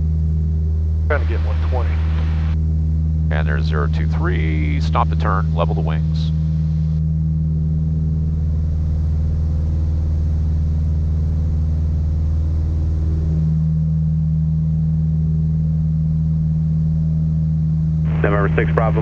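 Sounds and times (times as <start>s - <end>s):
propeller plane engines droning: 0.0s - 11.6s, 15.4s - 19.0s.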